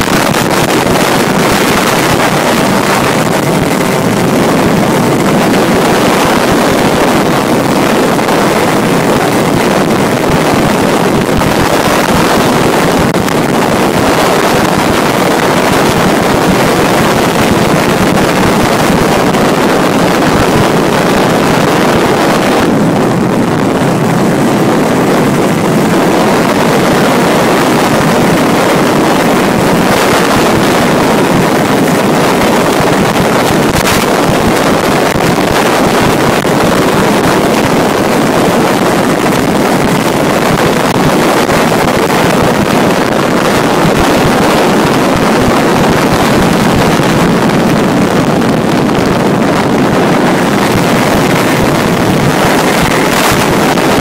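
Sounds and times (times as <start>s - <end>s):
two-stroke scooter engine running hard: 0.0s - 54.0s
wind noise on microphone: 0.0s - 54.0s.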